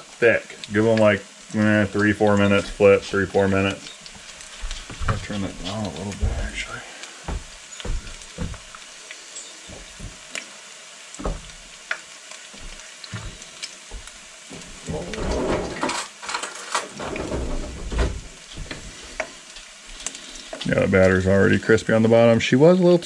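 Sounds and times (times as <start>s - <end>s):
fish frying in hot oil: 0.0s - 23.0s.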